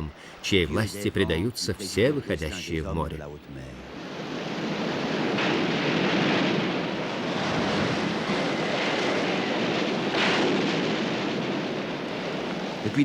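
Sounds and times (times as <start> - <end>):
heavy sea: 0.0 - 13.0
storm wind: 0.0 - 13.0.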